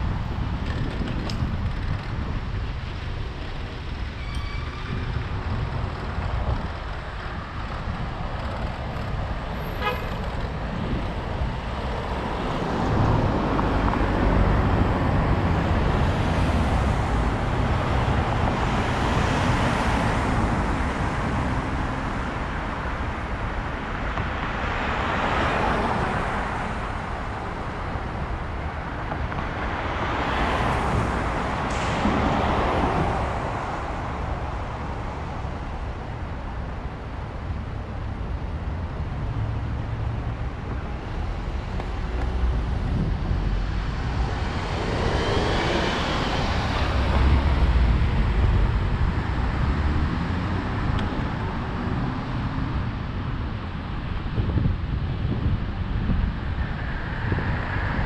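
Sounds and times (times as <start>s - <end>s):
wind rumble on microphone: 0.0s - 58.0s
cars driving past: 8.5s - 58.0s.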